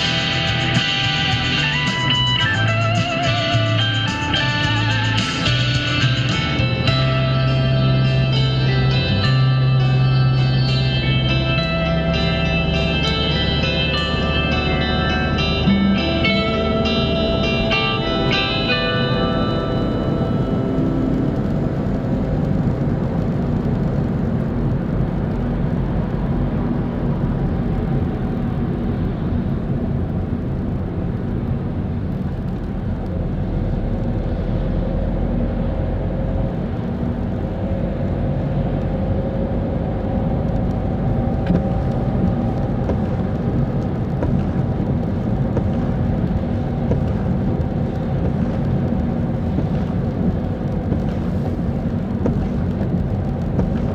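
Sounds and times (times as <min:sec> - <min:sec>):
car driving on wet road: 0:00.0 - 0:53.9.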